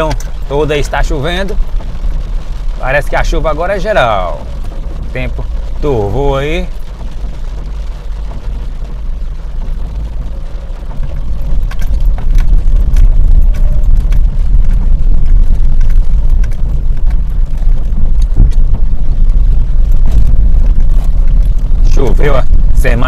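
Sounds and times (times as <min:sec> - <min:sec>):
car engine and tyres rumbling: 0:00.0 - 0:23.0
raindrops ticking on windscreen: 0:00.0 - 0:23.0
tyres rolling over cobblestones: 0:00.0 - 0:23.0.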